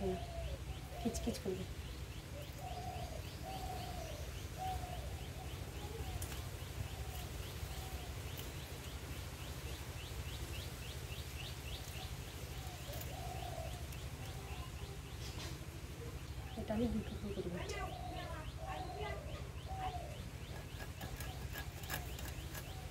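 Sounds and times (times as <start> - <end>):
low bird cooing: 0.0 - 10.7, 11.4 - 22.9
birds chirping: 0.0 - 22.9.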